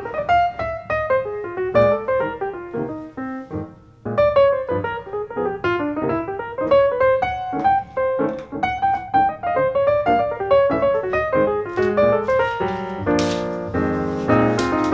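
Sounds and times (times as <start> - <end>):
brisk piano melody: 0.0 - 14.9.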